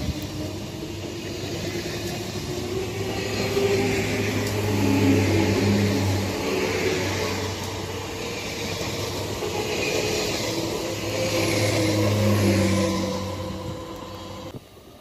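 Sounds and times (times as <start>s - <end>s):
electric train passing: 0.0s - 15.0s
wheels hissing on rail: 0.0s - 15.0s.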